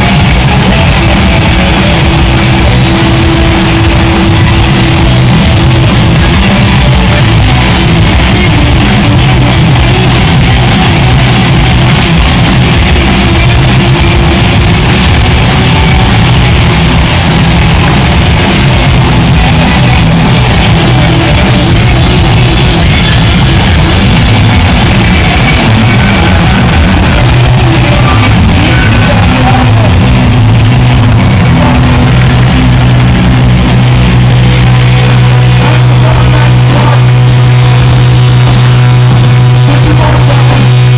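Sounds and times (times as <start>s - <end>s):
bass guitar: 0.0s - 40.9s
distorted electric guitars: 0.0s - 40.9s
drums: 0.0s - 40.9s.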